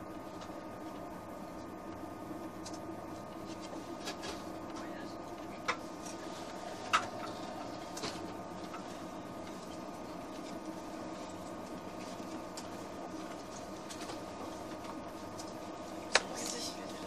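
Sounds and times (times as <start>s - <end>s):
train electrical hum: 0.0s - 17.0s.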